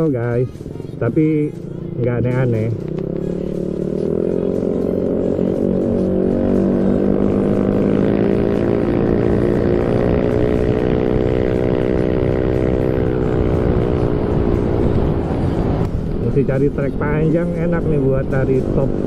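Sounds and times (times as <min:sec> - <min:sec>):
scooter engine accelerating: 0:00.0 - 0:19.0.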